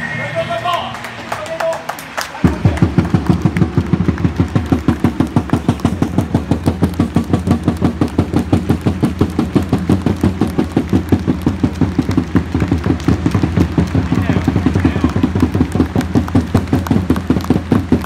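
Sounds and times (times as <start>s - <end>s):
low drone: 2.3s - 18.0s
drums beating fast rhythm: 2.4s - 18.0s.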